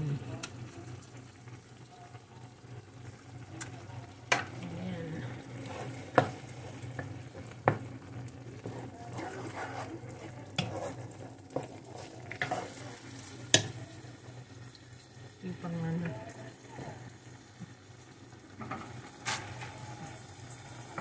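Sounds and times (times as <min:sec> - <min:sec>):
low sizzle of sauce: 0:00.0 - 0:21.0.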